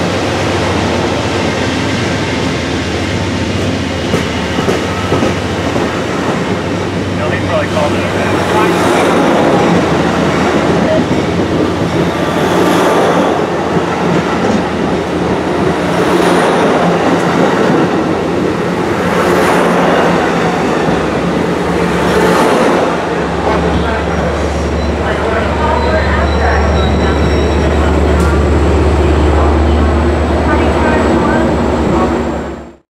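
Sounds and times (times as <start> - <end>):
train wheels rushing on rails: 0.0 - 32.7.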